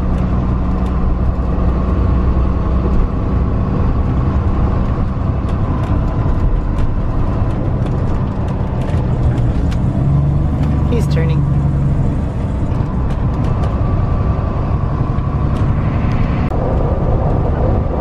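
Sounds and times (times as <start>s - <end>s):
motorhome engine and road rumble: 0.0s - 18.0s.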